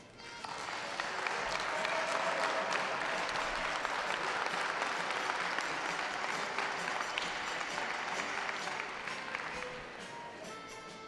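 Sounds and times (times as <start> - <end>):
audience applauding: 0.4 - 10.4.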